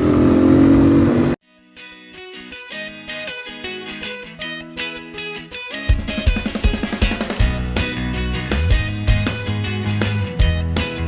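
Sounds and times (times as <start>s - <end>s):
guitar plucking a melody: 1.5s - 11.0s.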